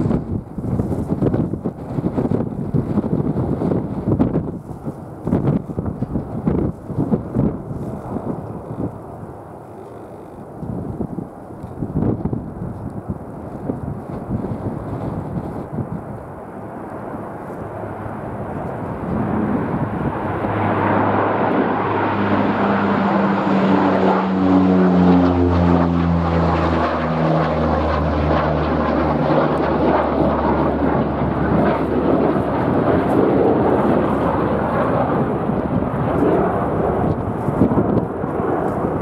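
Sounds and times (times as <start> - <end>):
airliner engines passing by: 0.0 - 39.0.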